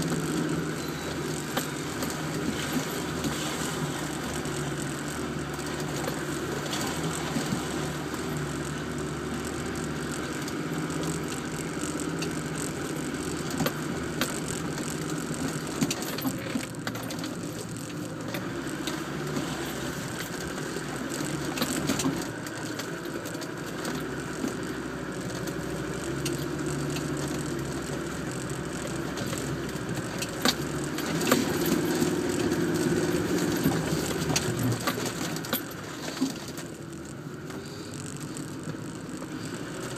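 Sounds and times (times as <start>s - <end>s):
body knocks and rattles: 0.0s - 39.9s
truck engine running: 0.0s - 39.9s.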